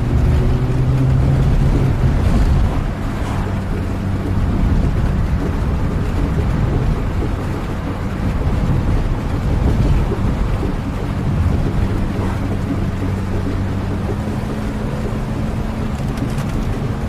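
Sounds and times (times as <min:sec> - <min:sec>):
steady rain: 0:00.0 - 0:17.0
vehicle engine drone: 0:00.0 - 0:17.0.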